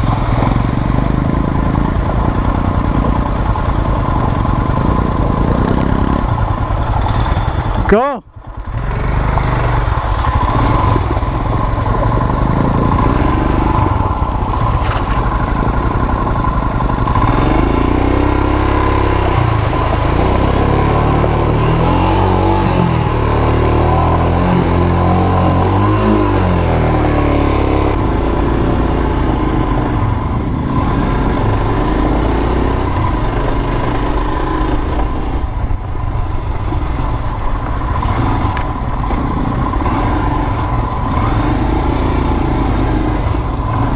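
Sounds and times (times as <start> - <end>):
motorcycle engine under load: 0.0 - 43.9.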